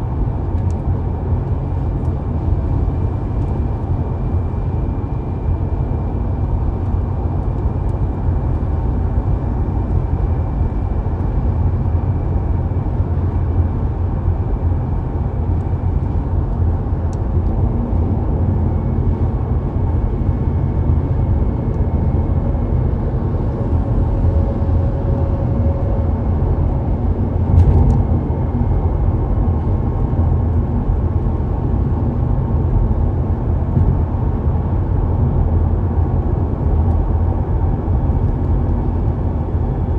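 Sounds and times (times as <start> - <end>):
car driving: 0.2 - 39.9.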